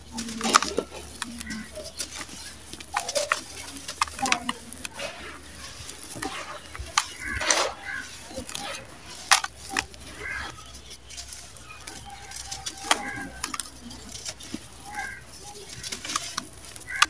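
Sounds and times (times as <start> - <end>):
crumbling chunks by hand: 0.0 - 17.0
sharp crack: 0.0 - 17.0.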